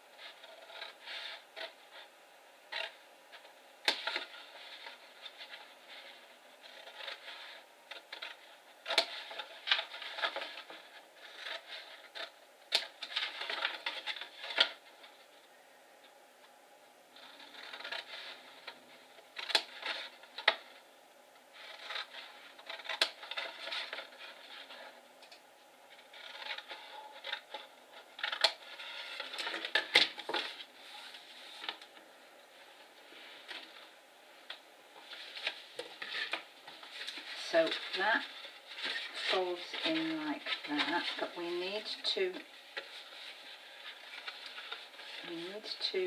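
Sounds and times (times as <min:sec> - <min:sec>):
papery rustling: 0:02.7 - 0:15.4, 0:17.1 - 0:20.8, 0:21.5 - 0:25.0, 0:25.9 - 0:46.0.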